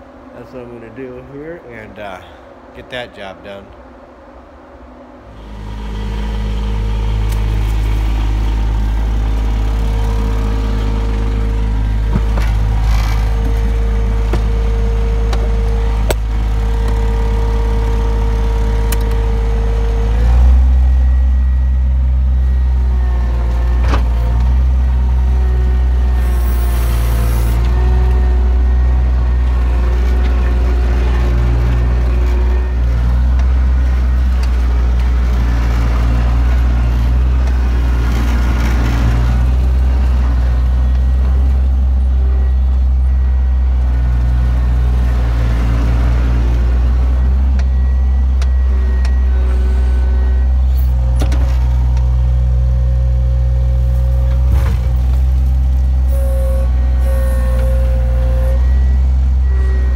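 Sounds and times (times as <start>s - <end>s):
skid loader engine running: 0.0s - 59.9s.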